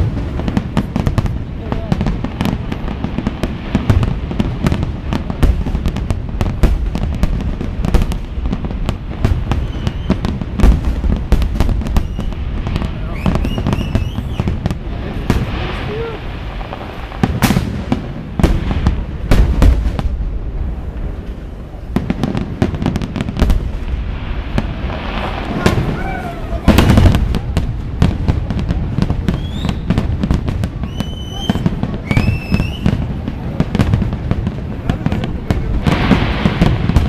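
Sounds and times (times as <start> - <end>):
deep fireworks booms: 0.0 - 37.0
fireworks bangs and crackling: 0.0 - 37.0.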